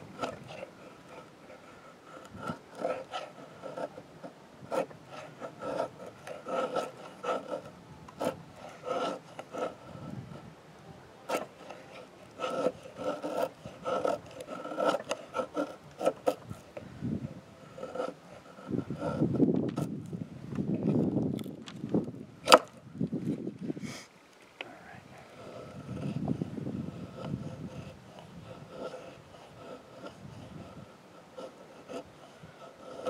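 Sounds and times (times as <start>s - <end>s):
knife scraping wood: 0.0s - 10.5s, 11.2s - 20.1s, 22.4s - 23.4s, 25.3s - 33.0s.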